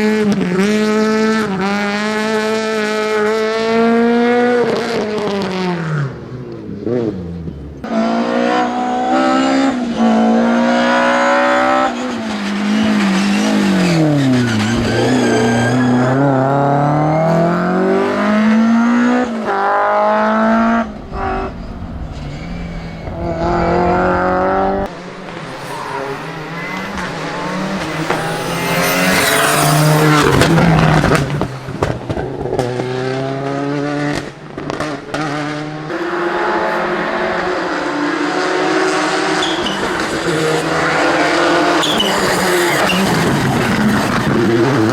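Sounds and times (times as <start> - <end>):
rally cars revving past: 0.0 - 44.9.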